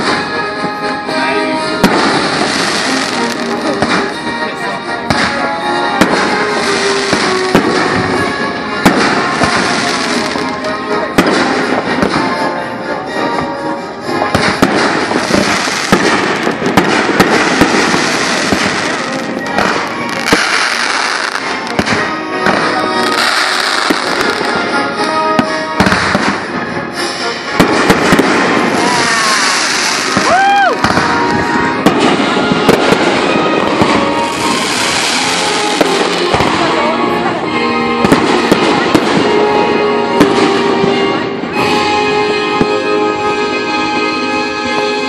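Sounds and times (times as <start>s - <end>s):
fireworks bangs and crackling: 0.0s - 45.0s
music: 0.0s - 45.0s.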